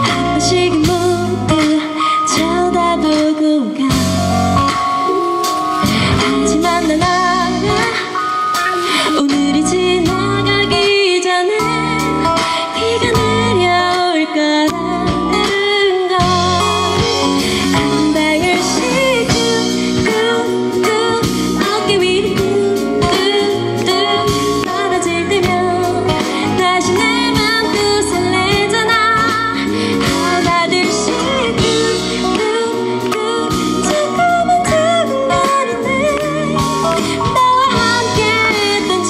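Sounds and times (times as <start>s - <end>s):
backing music: 0.0s - 39.0s
woman singing a pop ballad: 0.0s - 39.0s.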